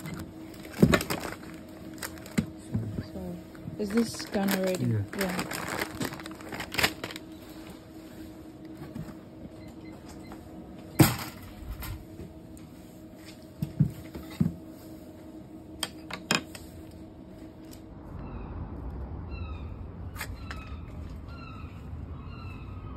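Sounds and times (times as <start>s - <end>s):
low hum: 0.0s - 22.9s.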